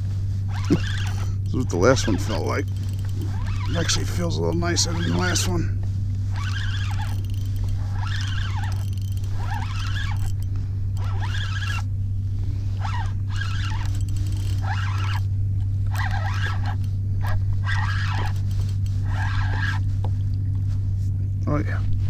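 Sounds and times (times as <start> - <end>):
fishing reel squeaky whir: 0.0 - 11.9, 12.7 - 19.9
steady low hum: 0.0 - 22.0.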